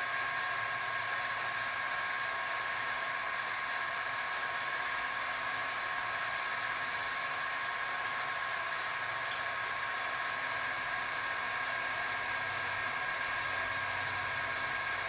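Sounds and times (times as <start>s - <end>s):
drill press motor whine: 0.0s - 15.0s.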